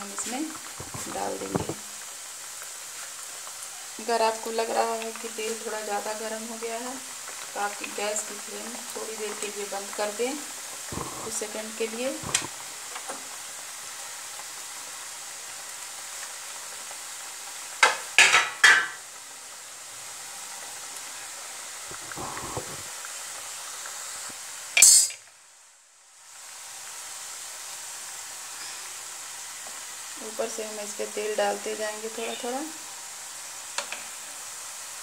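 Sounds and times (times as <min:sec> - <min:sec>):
food deep-frying in hot oil: 0:00.0 - 0:35.0.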